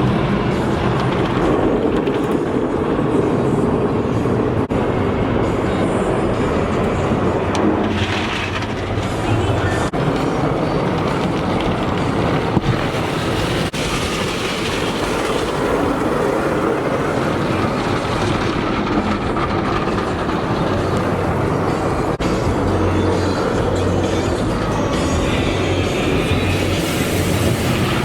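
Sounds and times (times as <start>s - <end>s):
vehicle rumbling: 0.0s - 28.0s.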